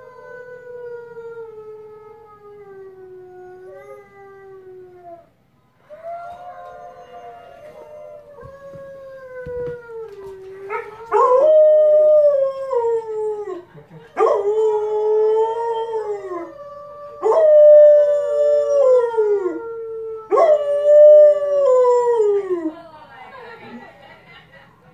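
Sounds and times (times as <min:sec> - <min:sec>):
dog howling: 0:00.0 - 0:13.6, 0:14.2 - 0:22.7
wolf howling from tv: 0:00.0 - 0:13.6, 0:14.2 - 0:22.5.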